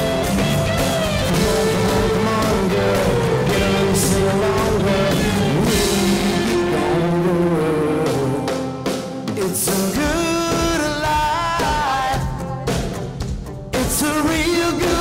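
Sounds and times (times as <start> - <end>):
country-rock band playing: 0.0 - 15.0.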